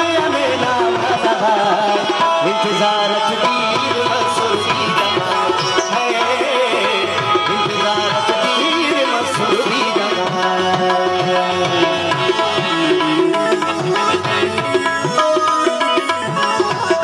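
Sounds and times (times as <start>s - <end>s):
held instrumental notes: 0.0s - 17.0s
man singing ornamented notes: 0.0s - 17.0s
tabla rhythm: 0.0s - 17.0s.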